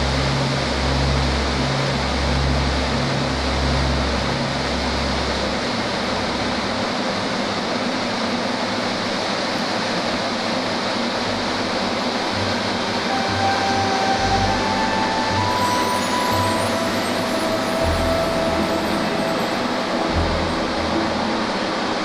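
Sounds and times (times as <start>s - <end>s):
low pulsing hum: 0.0s - 7.0s, 10.7s - 22.0s.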